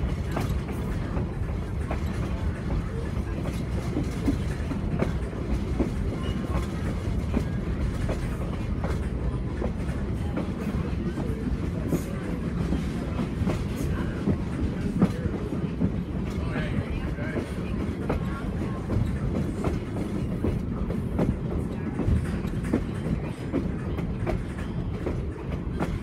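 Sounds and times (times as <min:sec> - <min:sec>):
train car rumbling on rails: 0:00.0 - 0:26.0.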